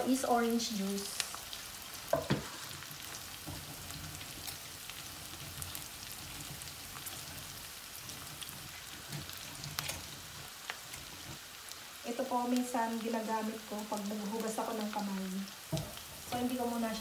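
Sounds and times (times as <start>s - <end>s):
onion sizzling in oil: 0.0s - 17.0s
small crackles: 0.6s - 17.0s.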